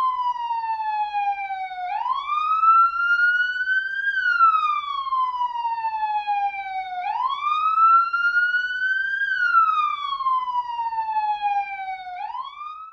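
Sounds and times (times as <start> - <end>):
police siren wailing: 0.0 - 12.9.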